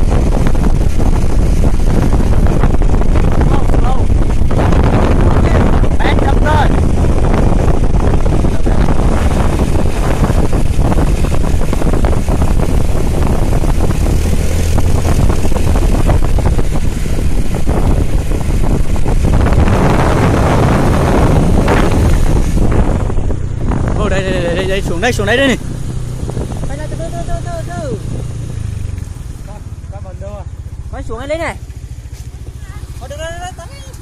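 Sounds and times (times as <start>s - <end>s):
motorbike engine running: 0.0s - 34.0s
wind rumble on microphone: 0.0s - 34.0s.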